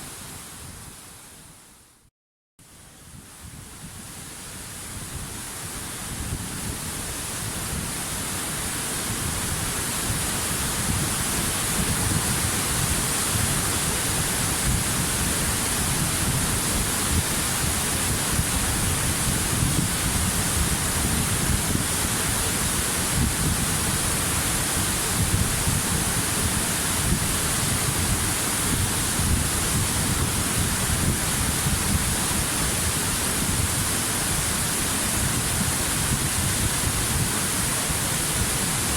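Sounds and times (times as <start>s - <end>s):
waterfall rushing: 7.0s - 38.9s.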